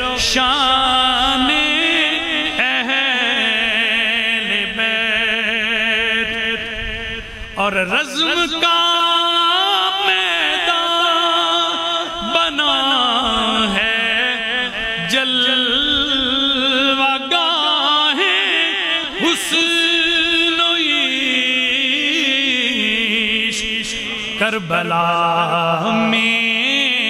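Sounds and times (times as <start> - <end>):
man singing into microphone: 0.0 - 27.0.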